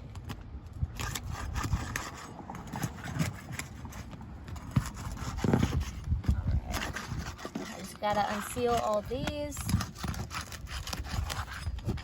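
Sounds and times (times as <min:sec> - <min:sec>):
tool knocking and scraping shingles: 0:01.0 - 0:12.0.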